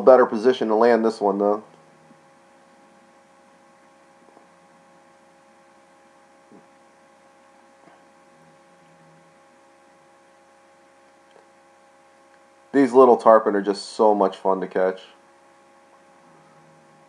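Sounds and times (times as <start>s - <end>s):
electrical hum: 0.0s - 17.0s
low hiss: 0.0s - 17.0s.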